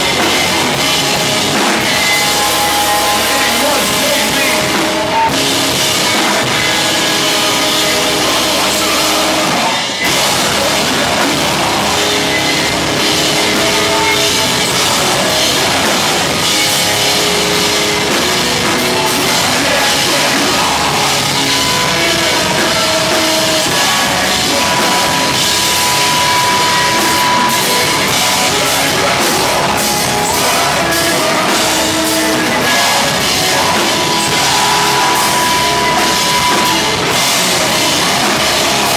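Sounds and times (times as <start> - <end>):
drum kit: 0.0 - 38.9
electric guitars: 0.0 - 38.9
person singing into microphone: 0.0 - 38.9.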